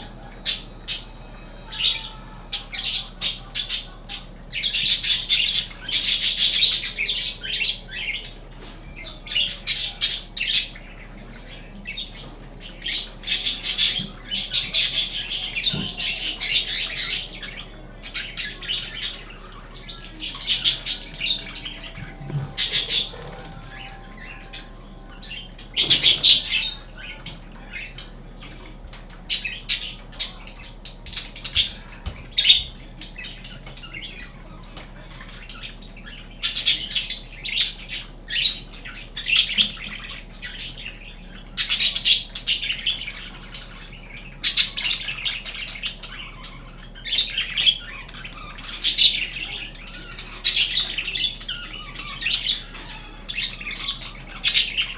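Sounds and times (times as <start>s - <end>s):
budgerigar chirping: 0.0s - 54.9s.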